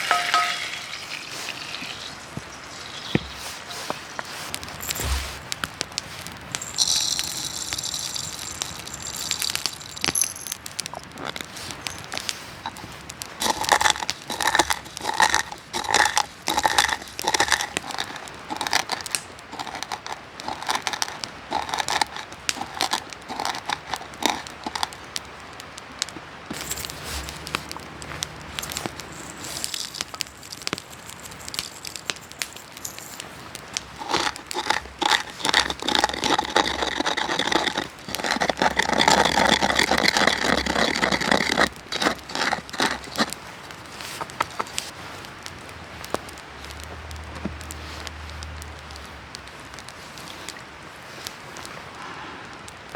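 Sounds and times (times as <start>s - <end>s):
handling strokes: 0.0s - 25.3s, 26.5s - 52.2s
campfire crackling and popping: 0.0s - 52.9s.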